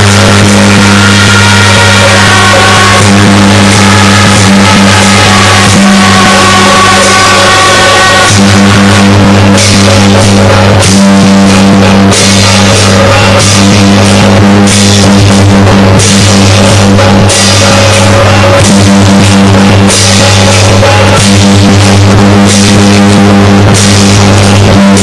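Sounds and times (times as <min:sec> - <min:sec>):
drums playing: 0:00.0 - 0:25.0.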